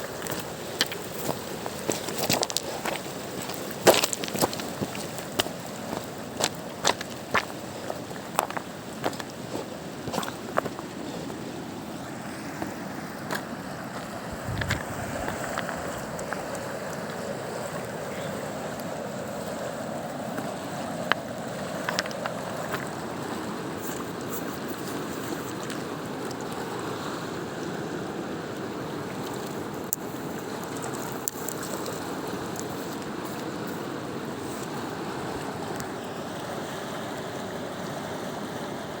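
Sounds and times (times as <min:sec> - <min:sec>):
mountain river rushing: 0:00.0 - 0:39.0.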